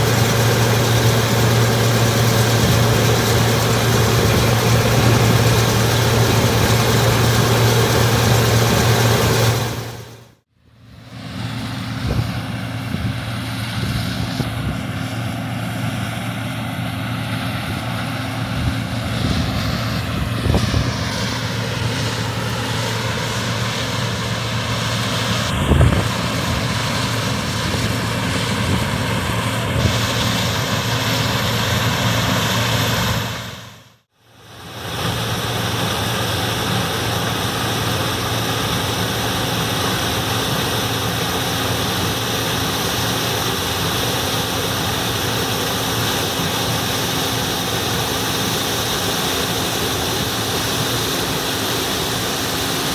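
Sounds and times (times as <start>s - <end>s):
combine harvester drone: 0.0s - 52.9s.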